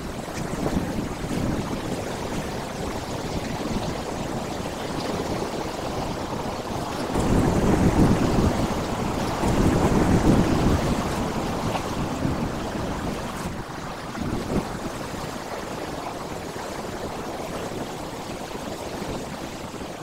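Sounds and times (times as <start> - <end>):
sea waves breaking on rock: 0.0 - 20.0.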